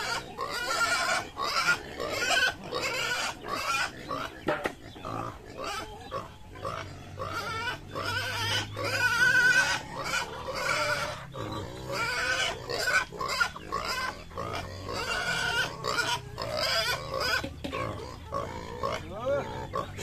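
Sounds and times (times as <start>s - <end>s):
pigs squealing and grunting: 0.0s - 20.0s.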